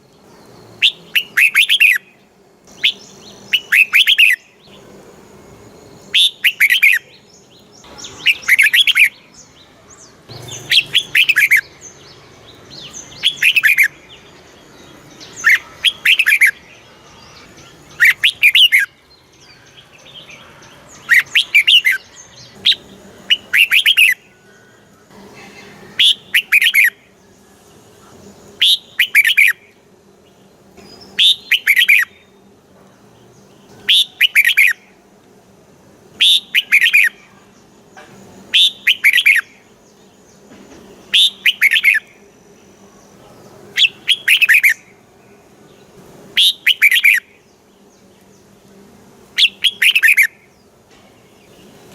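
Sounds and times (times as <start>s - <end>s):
bird singing warbled phrases: 0.0s - 35.1s, 35.9s - 51.9s.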